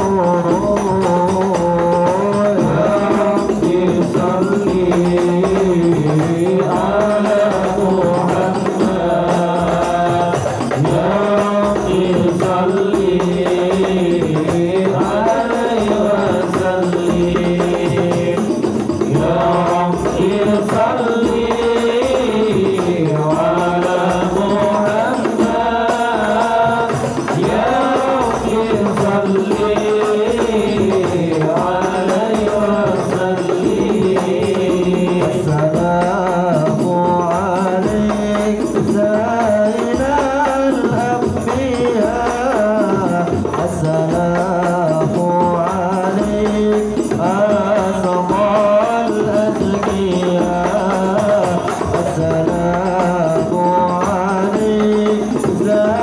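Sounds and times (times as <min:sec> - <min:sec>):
frame drums beaten in rhythm: 0:00.0 - 0:56.0
voices chanting devotional song: 0:00.0 - 0:56.0.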